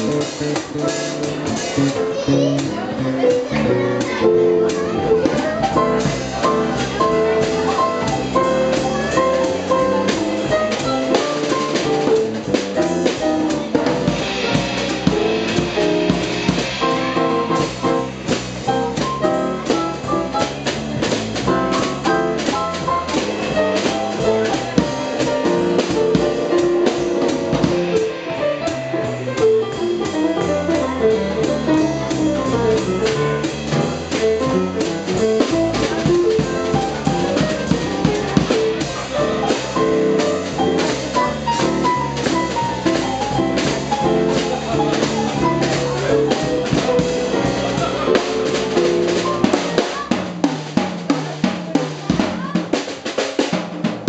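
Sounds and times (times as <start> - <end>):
electric bass guitar: 0.0 - 50.2
drum kit with cymbals: 0.0 - 54.0
stage piano: 0.0 - 54.0.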